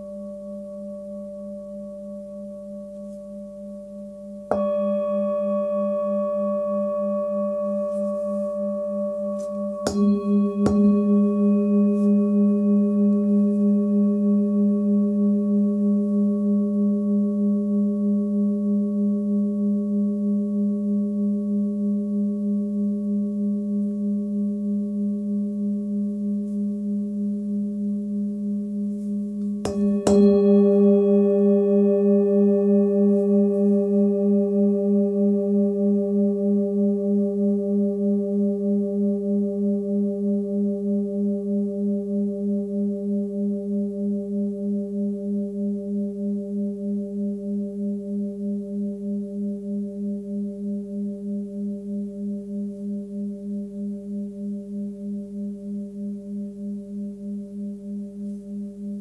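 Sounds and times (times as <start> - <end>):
singing bowl struck and ringing: 0.0 - 59.0.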